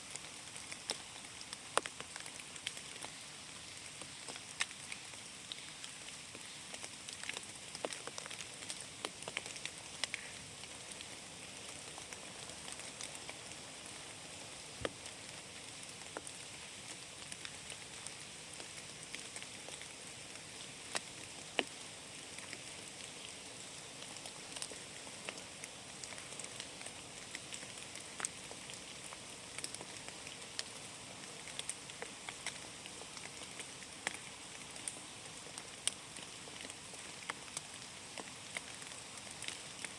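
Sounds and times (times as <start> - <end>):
rain hissing in a forest: 0.0 - 39.9
raindrops ticking on leaves: 0.0 - 39.9.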